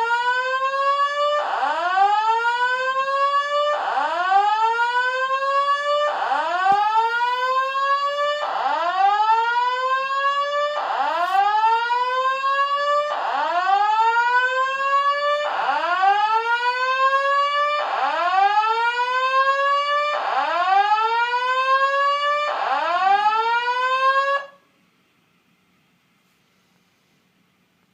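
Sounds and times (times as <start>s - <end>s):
electronic alarm rising whoop: 0.7s - 24.5s.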